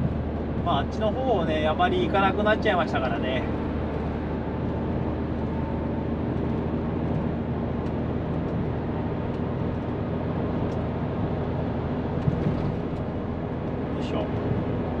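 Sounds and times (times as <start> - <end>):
truck diesel engine running: 0.0 - 15.0
tyre and road noise: 0.0 - 15.0.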